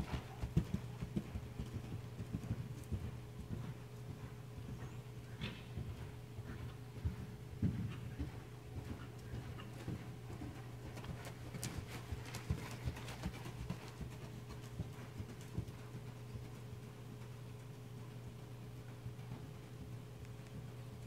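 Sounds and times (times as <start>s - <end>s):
horse hoofbeats trotting: 0.0s - 21.0s.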